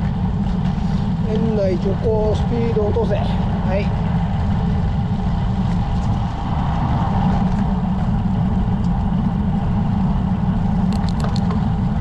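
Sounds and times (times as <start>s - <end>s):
bicycle tyre road noise: 0.0s - 12.0s
wind rushing over microphone: 0.0s - 12.0s.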